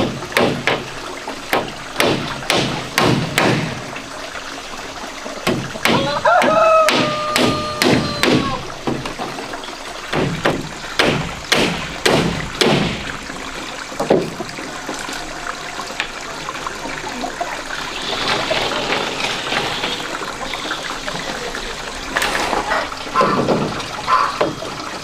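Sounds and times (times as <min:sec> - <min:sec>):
stream trickling: 0:00.0 - 0:25.0.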